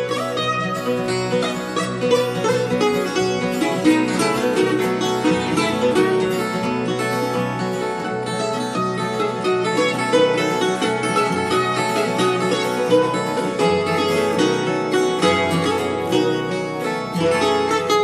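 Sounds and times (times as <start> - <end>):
plucked guitar fast notes: 0.0 - 18.0.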